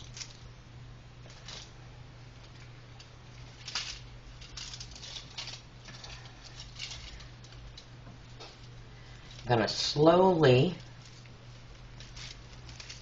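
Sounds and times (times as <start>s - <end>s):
cloth and foil rustling: 0.0s - 0.4s, 1.2s - 13.0s
faint low hum: 0.0s - 13.0s.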